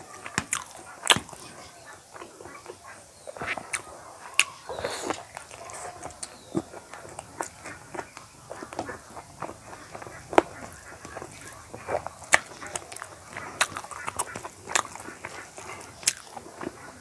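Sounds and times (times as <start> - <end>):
chewing with wet lip smacks: 0.1 - 17.0.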